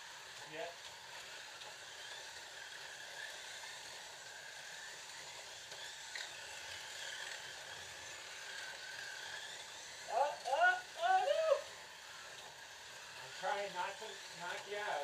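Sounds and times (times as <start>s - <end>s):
slot cars whirring: 0.0s - 15.0s.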